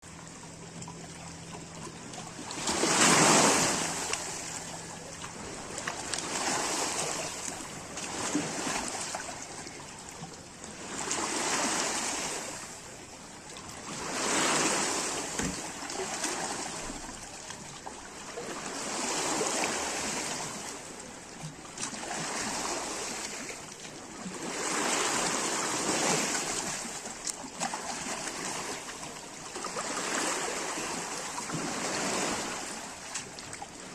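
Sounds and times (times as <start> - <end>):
sea waves washing in: 0.0 - 33.9.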